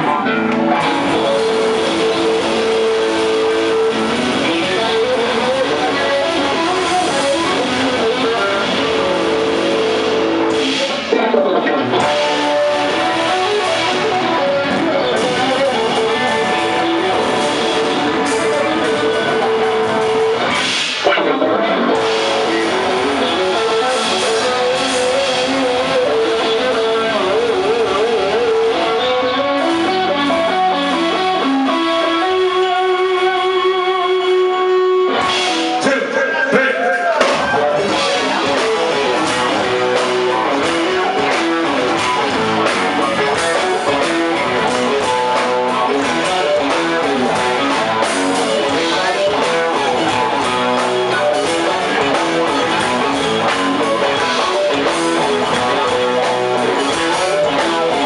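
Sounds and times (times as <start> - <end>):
electric guitars: 0.0 - 58.0
keyboard: 0.0 - 58.0.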